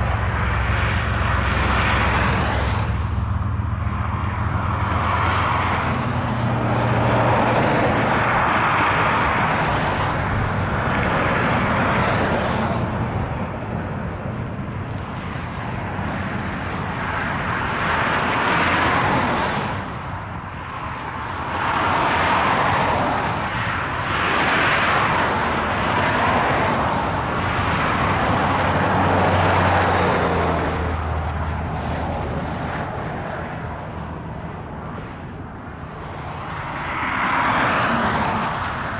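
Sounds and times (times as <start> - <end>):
diesel locomotive hum: 0.0 - 38.9.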